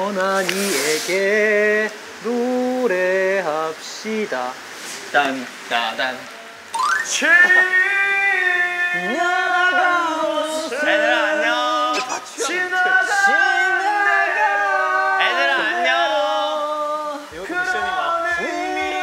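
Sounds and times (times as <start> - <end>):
man singing with vibrato: 0.0 - 4.7, 6.0 - 19.0.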